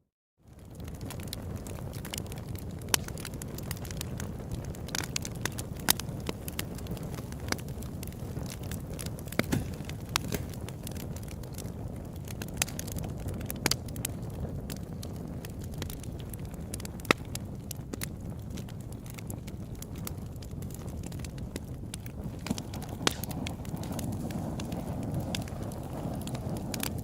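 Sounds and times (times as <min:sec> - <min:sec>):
campfire crackling: 0:00.4 - 0:27.0
low rush of burning wood: 0:00.4 - 0:27.0.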